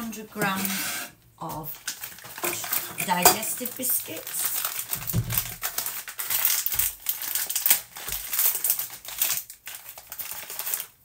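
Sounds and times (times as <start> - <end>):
plastic wrapper crinkling: 1.4 - 11.0.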